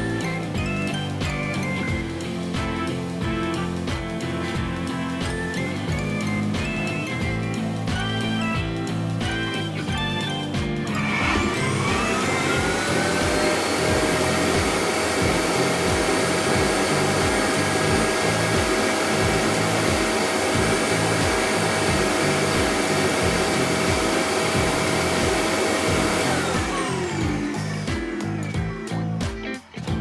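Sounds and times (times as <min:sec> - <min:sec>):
vacuum cleaner motor whining: 0:00.0 - 0:29.2
background music with a beat: 0:00.0 - 0:30.0.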